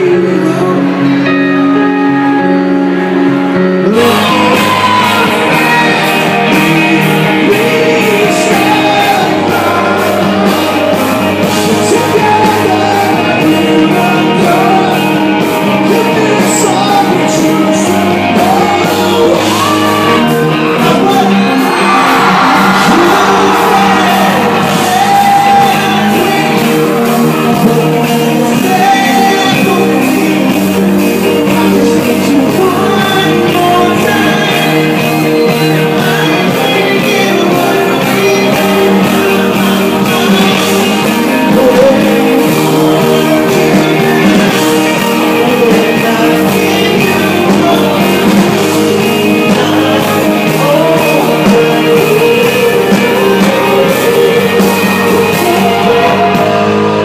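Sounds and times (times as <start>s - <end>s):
electric guitar: 0.0s - 57.0s
man singing into a microphone: 0.0s - 57.0s
steady drum beat: 3.9s - 57.0s.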